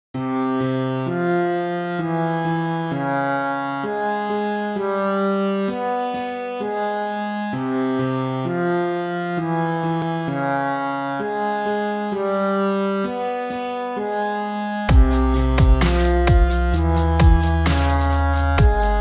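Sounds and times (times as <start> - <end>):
slow held chords music: 0.2 - 19.0.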